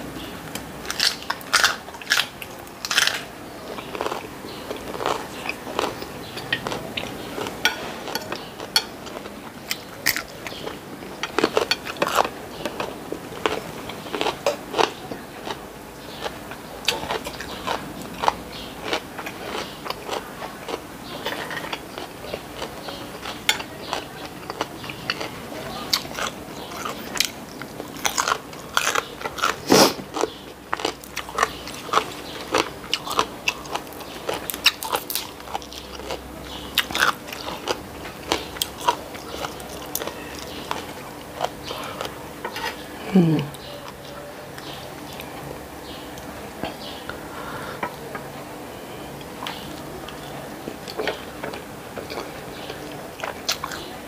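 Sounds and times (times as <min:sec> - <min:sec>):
person chewing crunchy food: 0:00.5 - 0:48.2, 0:49.0 - 0:54.0.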